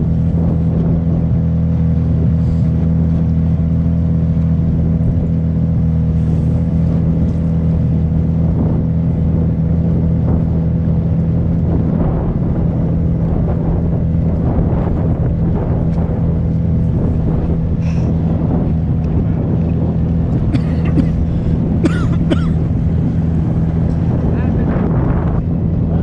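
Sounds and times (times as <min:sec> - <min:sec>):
boat engine running: 0:00.0 - 0:26.0
water rushing along hull: 0:00.0 - 0:26.0.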